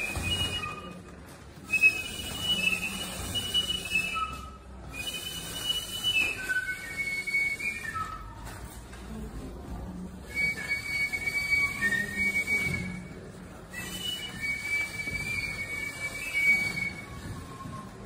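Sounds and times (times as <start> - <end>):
hand whistling high notes: 0.0 - 8.7, 10.3 - 18.0.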